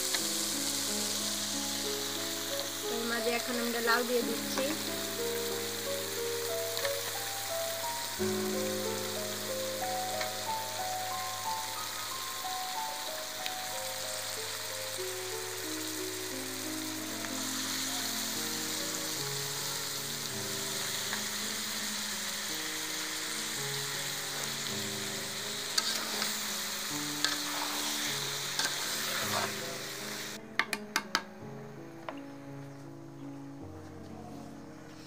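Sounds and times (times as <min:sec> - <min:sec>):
vegetables sizzling in hot oil: 0:00.0 - 0:30.4.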